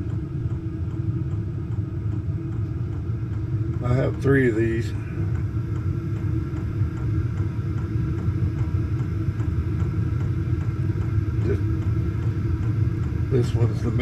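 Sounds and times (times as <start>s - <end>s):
diesel air heater rumble: 0.0s - 14.0s
faint regular ticking: 0.1s - 14.0s.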